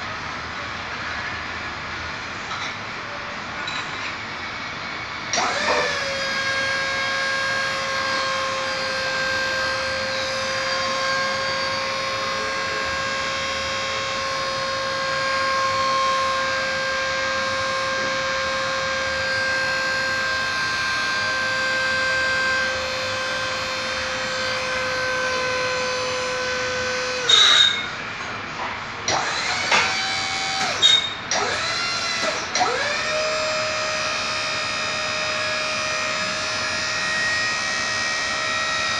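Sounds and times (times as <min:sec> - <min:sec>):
hydraulic power unit whining: 0:00.0 - 0:38.9.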